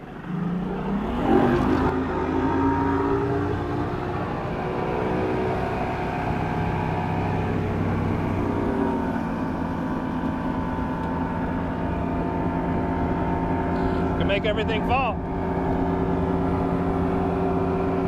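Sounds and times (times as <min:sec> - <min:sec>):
outboard motor running hard: 0:00.0 - 0:18.0.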